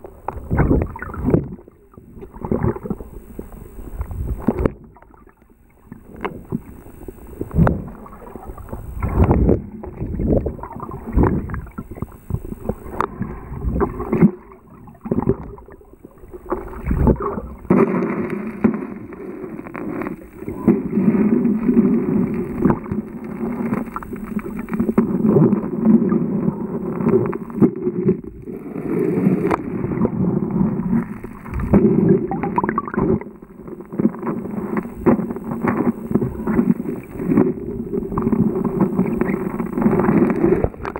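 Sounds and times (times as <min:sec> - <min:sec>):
underwater river rush: 0:00.0 - 0:40.9.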